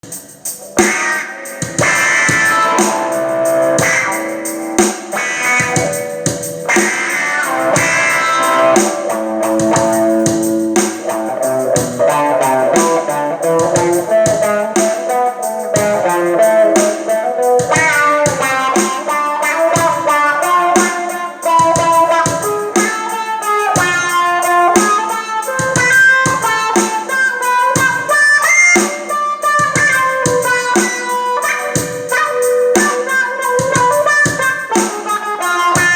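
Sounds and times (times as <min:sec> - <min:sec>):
electric guitar with wah-wah: 0:00.0 - 0:35.9.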